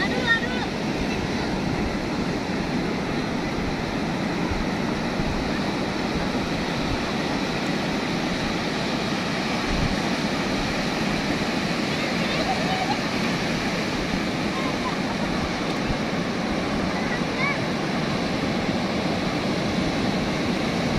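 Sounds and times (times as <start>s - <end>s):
ocean surf breaking: 0.0s - 20.9s
wind rumbling on microphone: 0.0s - 20.9s.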